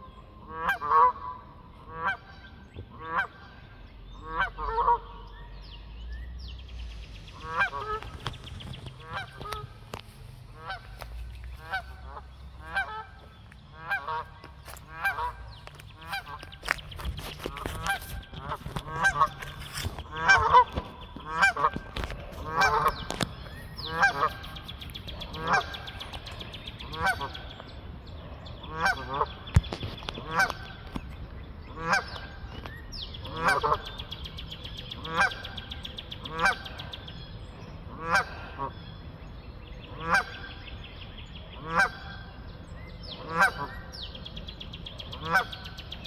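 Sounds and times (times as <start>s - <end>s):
geese honking: 0.4s - 5.7s, 6.5s - 46.0s.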